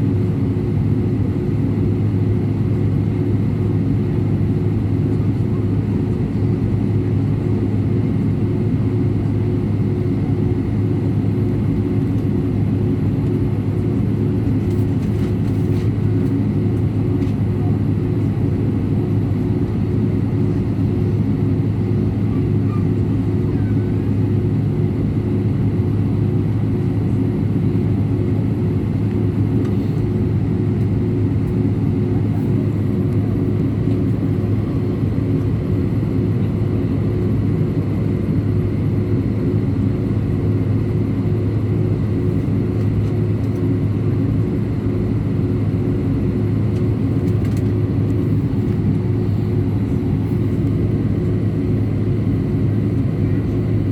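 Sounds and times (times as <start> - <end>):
airliner cabin engine drone: 0.0 - 53.9.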